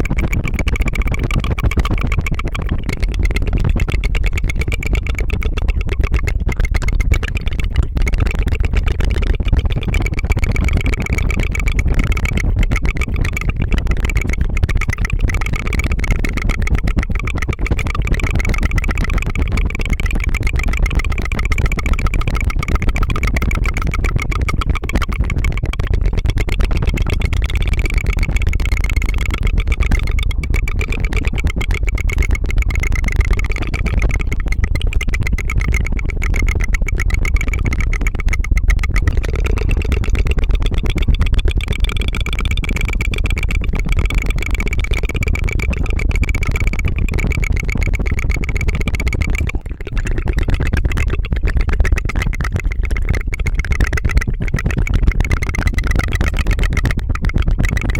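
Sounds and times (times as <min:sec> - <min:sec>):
tongue fluttering trill: 0:00.0 - 0:57.9.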